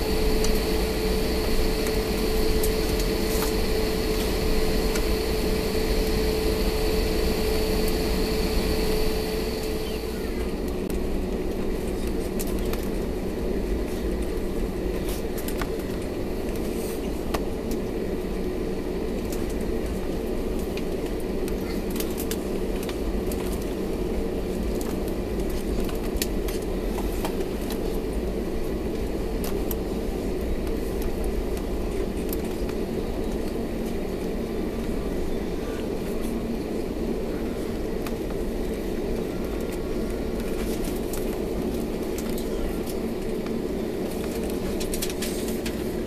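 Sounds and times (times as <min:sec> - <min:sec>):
aircraft engine hum: 0:00.0 - 0:46.0.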